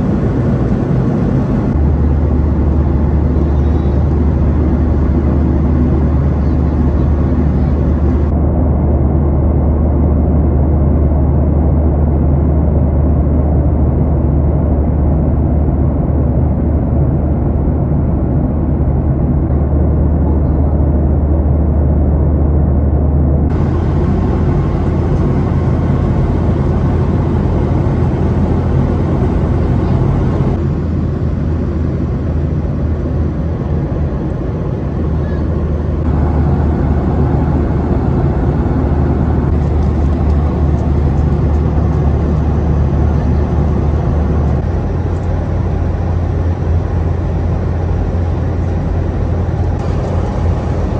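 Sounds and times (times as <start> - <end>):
airplane cabin drone: 0.0 - 50.9.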